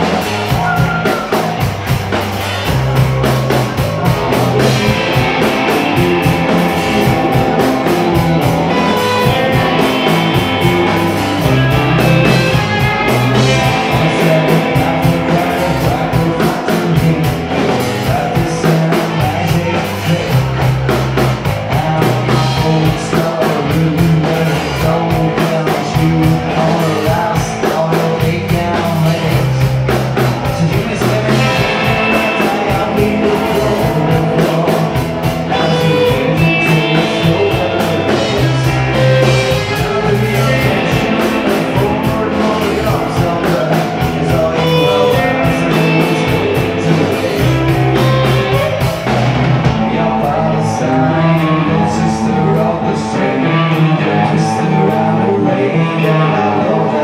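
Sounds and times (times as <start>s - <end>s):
drum kit with cymbals: 0.0s - 50.4s
bass guitar: 0.0s - 57.0s
distorted electric guitars: 0.0s - 57.0s
man singing: 0.0s - 57.0s.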